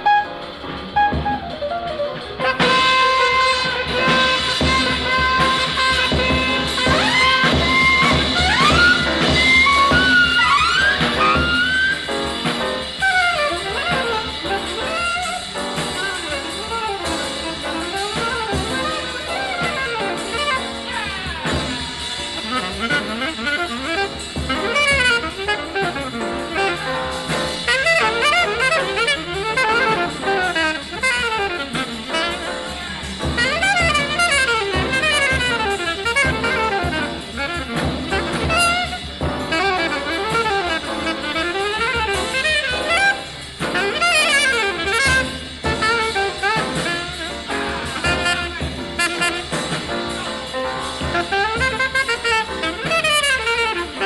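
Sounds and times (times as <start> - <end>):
bass: 0.0 - 54.0
drums: 0.0 - 54.0
saxophone solo: 0.0 - 54.0.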